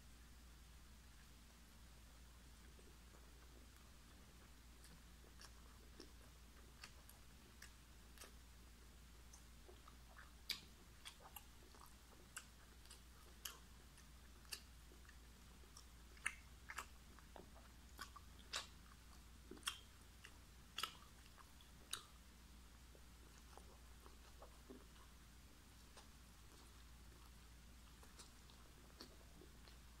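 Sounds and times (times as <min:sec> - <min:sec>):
person chewing with mouth clicks: 0:02.2 - 0:30.0.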